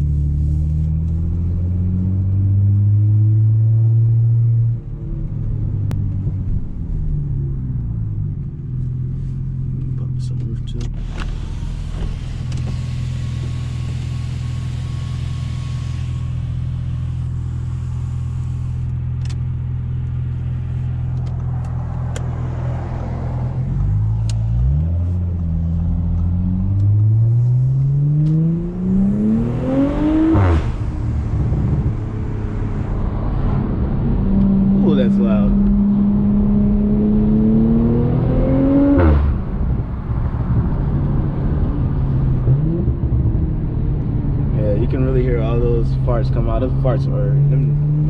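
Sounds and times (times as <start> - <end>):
car engine revving: 9.1 - 48.0.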